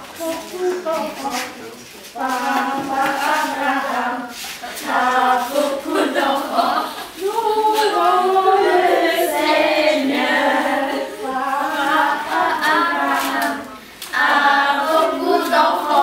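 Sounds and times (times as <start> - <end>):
children and women singing a cappella: 0.0 - 16.0.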